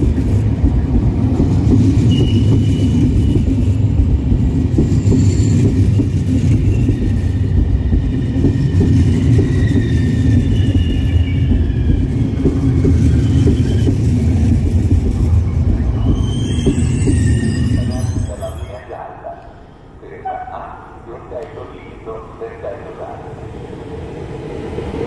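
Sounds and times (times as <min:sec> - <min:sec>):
train wheels rumbling on rail: 0:00.0 - 0:19.1, 0:21.1 - 0:25.0.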